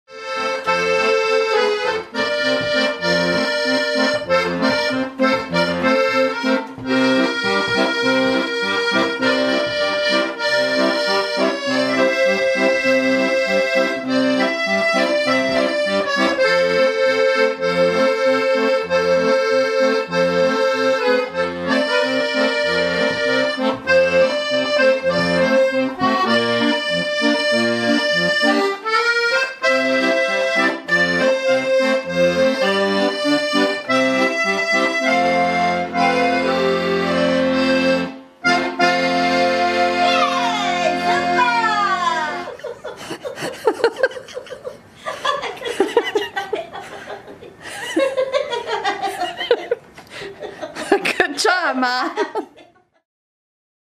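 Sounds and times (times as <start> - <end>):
piano accordion playing a tune: 0.1 - 45.0.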